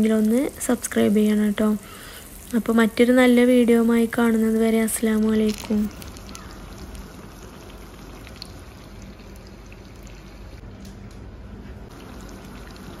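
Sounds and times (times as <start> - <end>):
fish frying in hot oil: 0.0 - 10.6, 11.9 - 13.0
oil crackling: 0.0 - 10.6.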